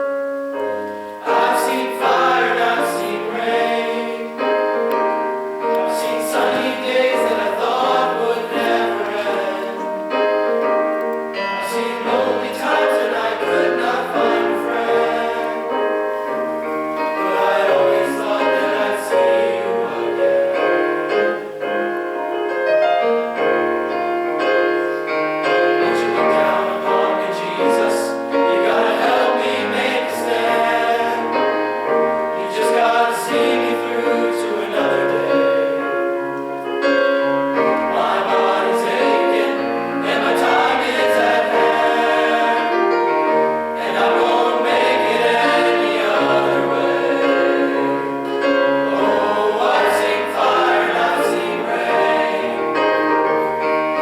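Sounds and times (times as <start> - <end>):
piano accompaniment: 0.0 - 54.0
men's chorus singing: 1.2 - 10.6, 11.4 - 21.1, 25.4 - 36.1, 36.8 - 53.4.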